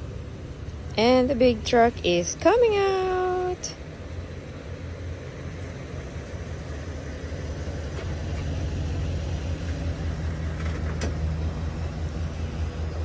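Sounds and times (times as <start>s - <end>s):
pickup engine idling: 0.0s - 13.0s.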